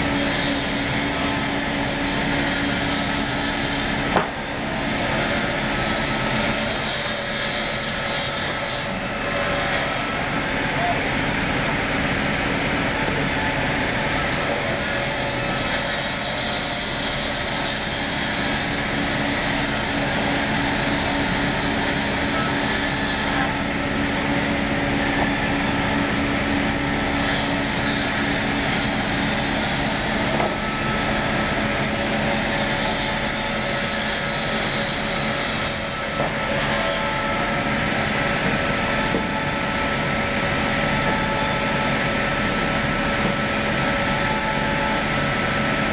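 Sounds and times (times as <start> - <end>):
circular saw machine running: 0.0 - 45.9.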